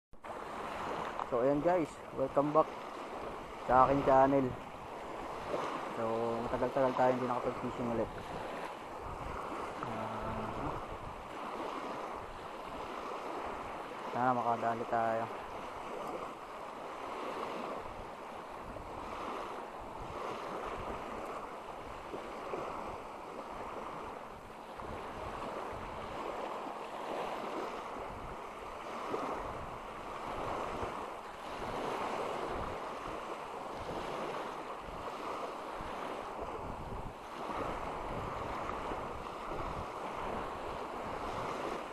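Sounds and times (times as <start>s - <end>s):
small waves splashing: 0.2s - 41.9s
wind gusting on microphone: 0.3s - 41.9s.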